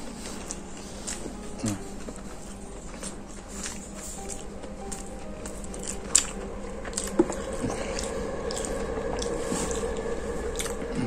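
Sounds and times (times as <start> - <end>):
person chewing with wet smacks: 0.0 - 11.0.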